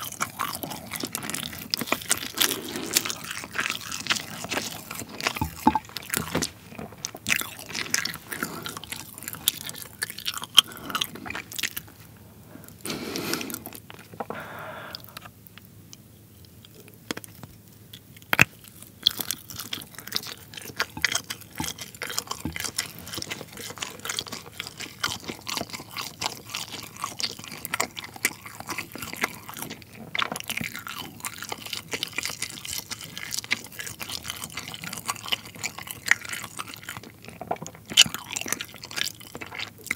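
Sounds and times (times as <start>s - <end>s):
chewing with mouth clicks: 0.0s - 39.9s.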